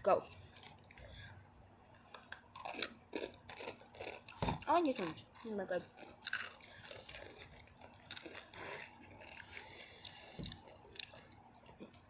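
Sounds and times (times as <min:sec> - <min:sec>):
crunching and chewing chips: 0:00.2 - 0:12.0.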